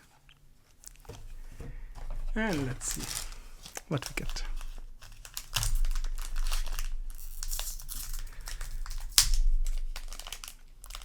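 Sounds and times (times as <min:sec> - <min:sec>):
wrapper crinkling and tearing: 0:00.7 - 0:11.0.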